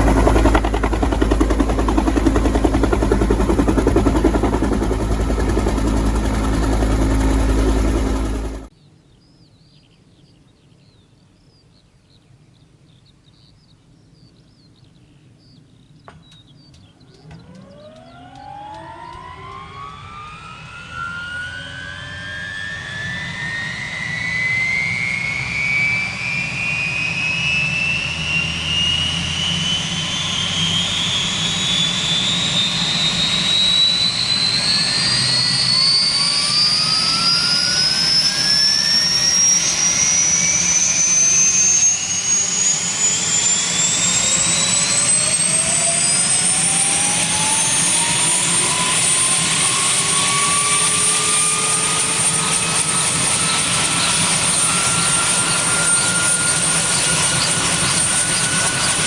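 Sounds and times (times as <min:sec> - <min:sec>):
helicopter turbine whine rising: 0:00.0 - 0:08.7, 0:17.2 - 0:59.0.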